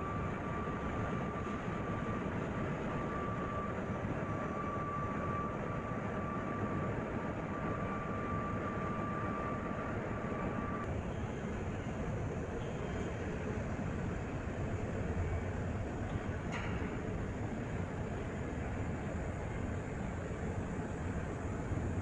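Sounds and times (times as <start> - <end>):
engine-room machinery drone: 0.0 - 22.0
thin steady whine: 0.0 - 22.0.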